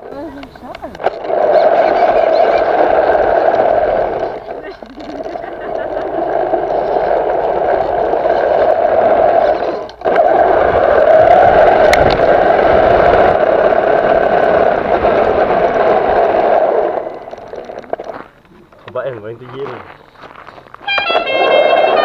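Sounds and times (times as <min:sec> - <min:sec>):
electric motor whine: 0:00.0 - 0:18.1, 0:20.8 - 0:22.0.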